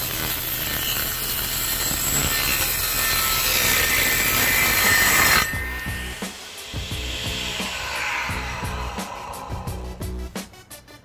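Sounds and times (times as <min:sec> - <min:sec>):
circular saw cutting wood: 0:00.0 - 0:10.5.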